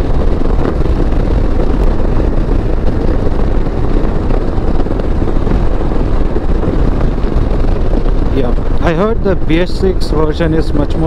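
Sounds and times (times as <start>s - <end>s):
motorcycle engine drone: 0.0s - 11.0s
wind rush: 0.0s - 11.0s.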